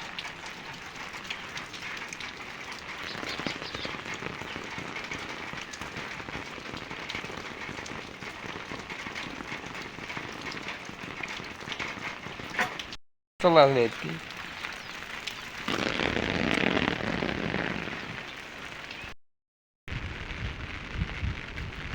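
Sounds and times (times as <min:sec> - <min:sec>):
steady rain pattering: 0:00.0 - 0:19.2, 0:19.9 - 0:21.9.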